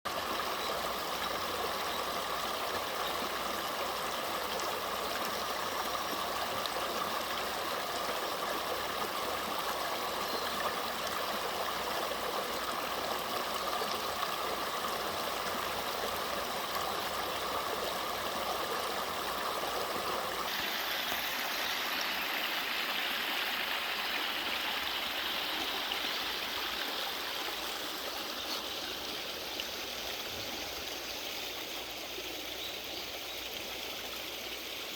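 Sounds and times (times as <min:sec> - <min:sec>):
stream rushing down waterfall: 0:00.1 - 0:34.9.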